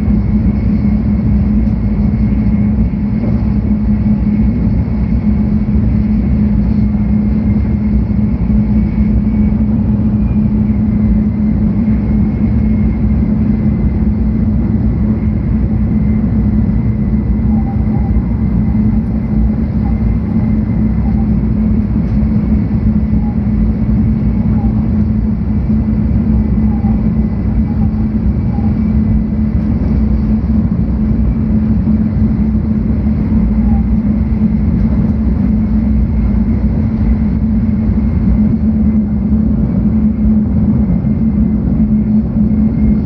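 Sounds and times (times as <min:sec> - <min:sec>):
faint high whine: 0:00.0 - 0:43.0
steady hum: 0:00.0 - 0:43.0
train cabin low rumble: 0:00.0 - 0:43.0.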